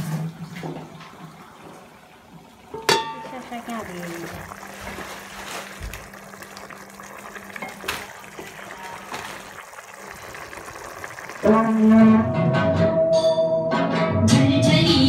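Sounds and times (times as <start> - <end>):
stew bubbling in a pot: 0.0 - 12.2.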